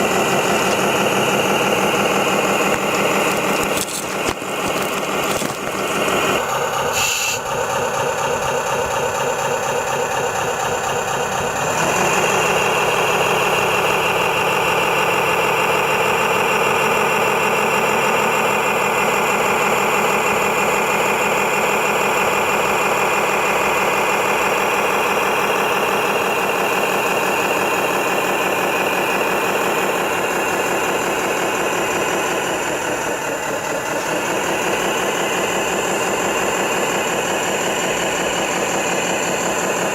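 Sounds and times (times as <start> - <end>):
model truck engine running: 0.0 - 39.9.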